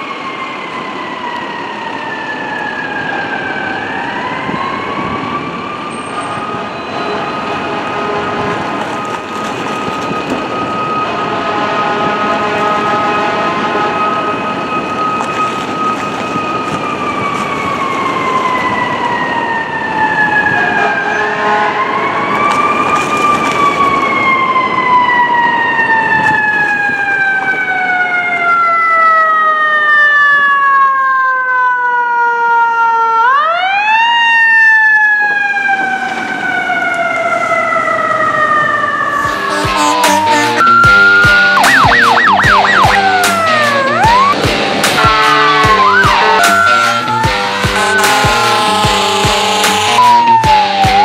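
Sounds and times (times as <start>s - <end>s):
city traffic hum: 0.0s - 51.0s
fire engine siren wailing: 0.0s - 51.0s.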